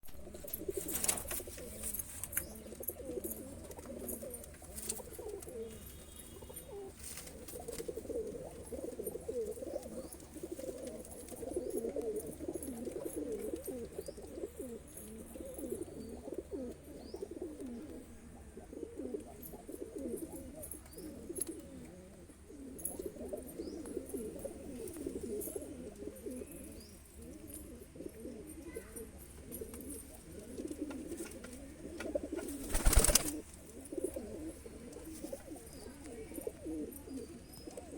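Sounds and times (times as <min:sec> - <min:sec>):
pigeons cooing: 0:00.1 - 0:37.9.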